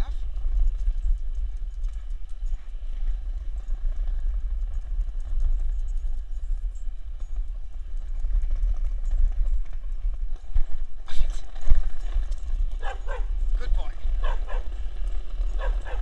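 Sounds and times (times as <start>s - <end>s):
skateboard wheels rolling on pavers: 0.0s - 16.0s.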